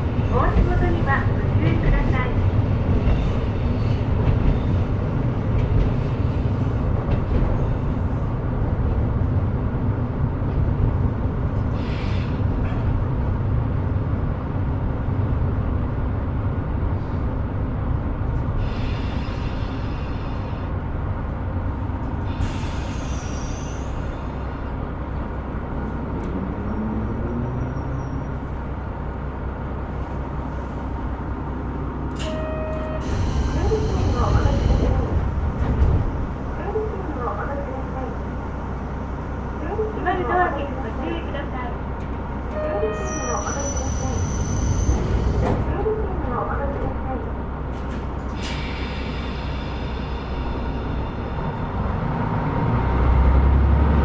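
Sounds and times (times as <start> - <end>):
diesel railcar engine: 0.0 - 54.0.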